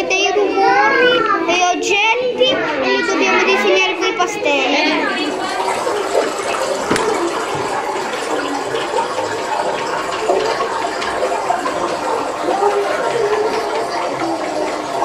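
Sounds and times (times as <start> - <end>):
water running and gurgling: 2.9 - 15.0.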